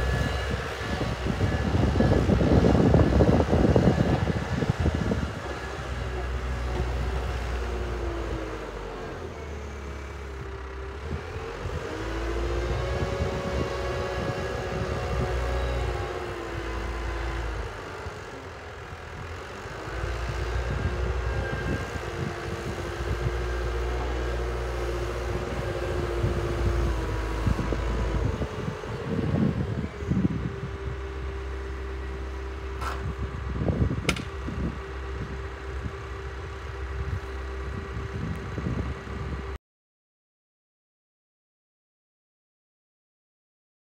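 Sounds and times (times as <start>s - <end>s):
diesel engine revving: 0.0s - 39.6s.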